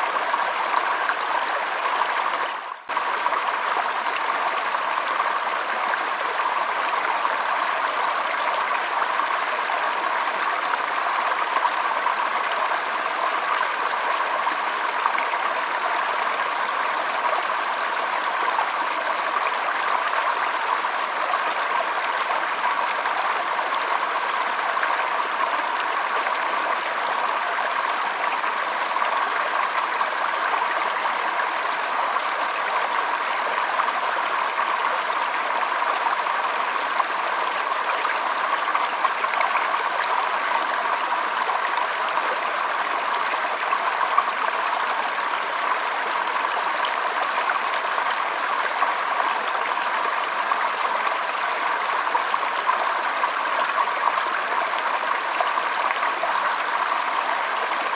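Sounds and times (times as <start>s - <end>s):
stream babbling over stones: 0.0s - 57.9s.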